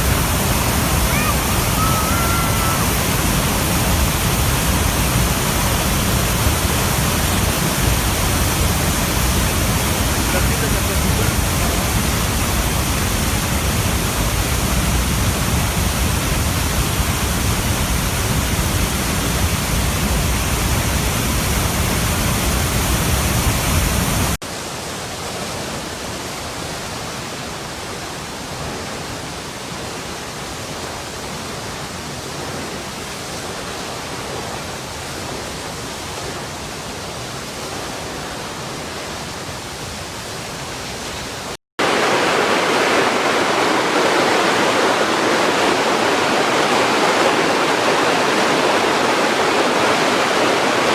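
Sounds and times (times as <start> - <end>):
water rushing: 0.0 - 50.9.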